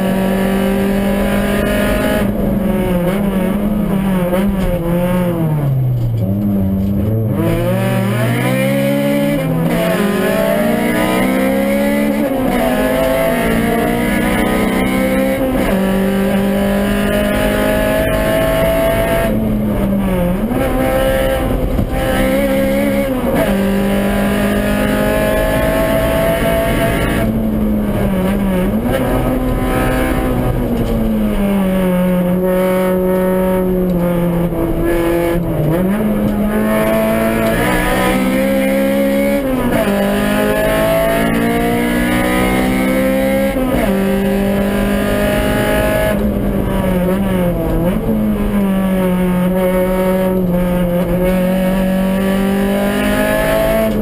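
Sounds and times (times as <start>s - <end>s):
car engine revving from inside cabin: 0.0s - 54.0s.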